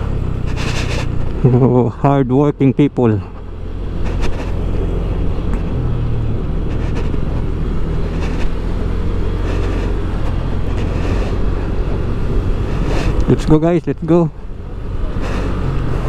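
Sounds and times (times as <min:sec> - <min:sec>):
scooter engine drone: 0:00.0 - 0:16.0
wind and road noise: 0:00.0 - 0:16.0.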